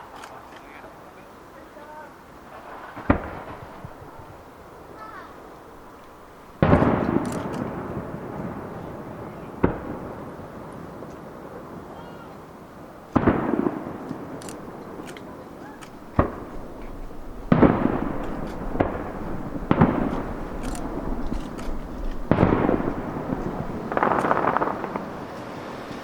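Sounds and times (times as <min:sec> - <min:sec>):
firework shells bursting: 0:02.4 - 0:26.0.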